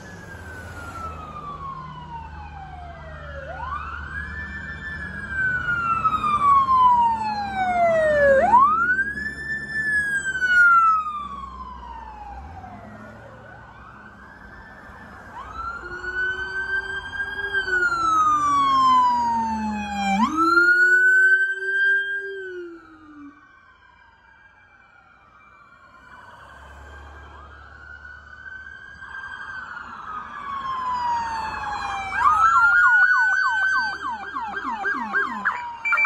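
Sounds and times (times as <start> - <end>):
police sirens wailing: 0.0 - 36.0.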